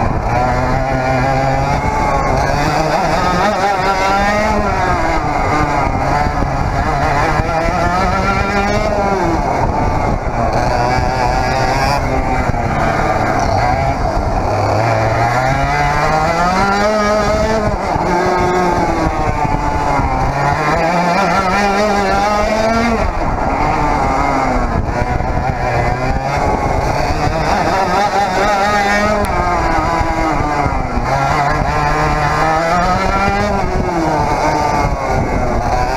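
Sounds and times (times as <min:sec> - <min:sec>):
kart engine revving: 0:00.0 - 0:35.9.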